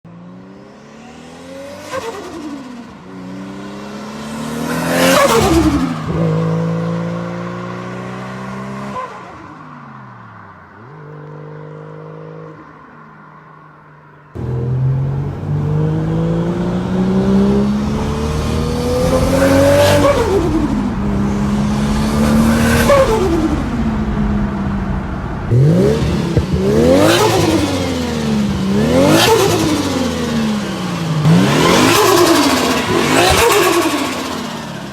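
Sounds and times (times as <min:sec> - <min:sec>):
car engine revving: 0:00.2 - 0:12.8, 0:14.4 - 0:34.9.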